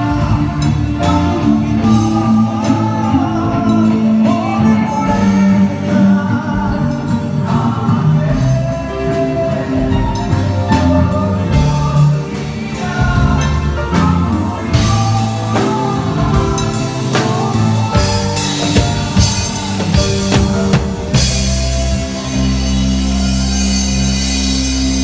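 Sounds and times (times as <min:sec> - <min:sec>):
person singing: 0:00.0 - 0:24.1
live band playing: 0:00.0 - 0:25.0.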